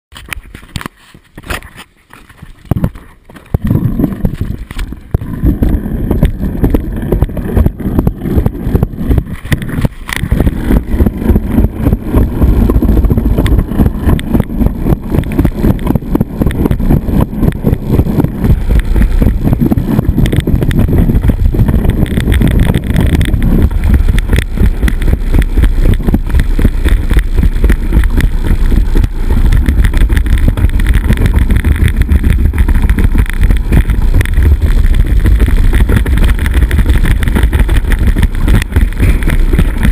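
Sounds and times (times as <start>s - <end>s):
sled rattling rumble on steel slide: 2.6s - 39.9s.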